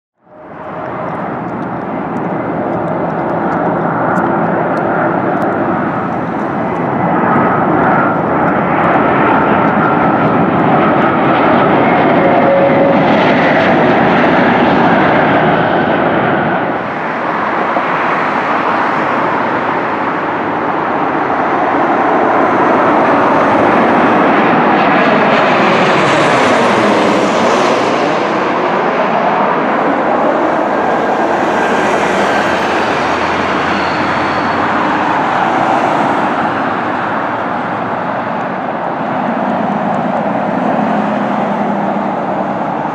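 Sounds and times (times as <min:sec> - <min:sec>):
faint engine whine: 0:00.2 - 0:14.4, 0:22.0 - 0:42.9
airliner passing overhead: 0:00.2 - 0:42.9
jet engines roaring: 0:00.2 - 0:42.9.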